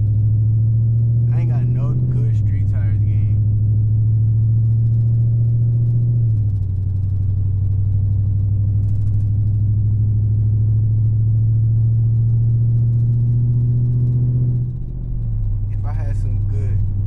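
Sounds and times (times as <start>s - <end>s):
car engine droning in cabin: 0.0s - 17.0s.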